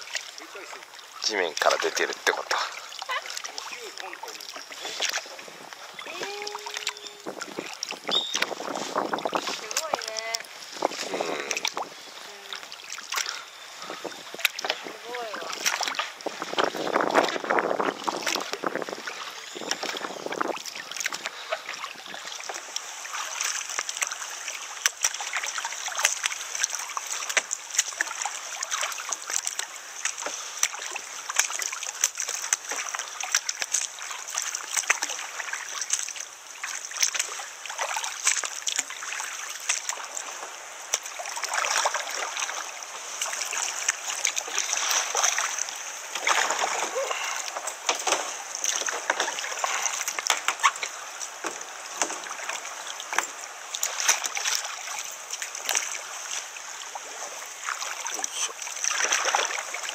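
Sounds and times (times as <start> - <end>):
kayak paddles stroking water: 0.0 - 59.9
water dripping off paddles: 0.0 - 59.9
water splashing: 0.0 - 59.9.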